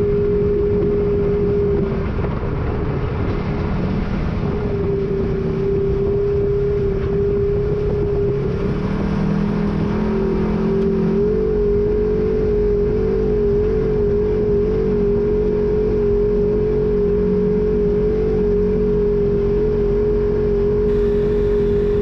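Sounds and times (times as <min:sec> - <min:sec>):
road and wind noise: 0:00.0 - 0:22.0
vehicle engine cruising: 0:00.0 - 0:22.0.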